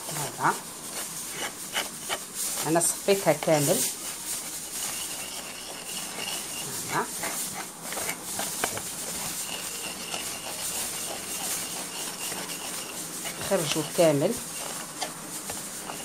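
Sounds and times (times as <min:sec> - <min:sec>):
spoon scraping paste through a sieve: 0:00.0 - 0:16.0.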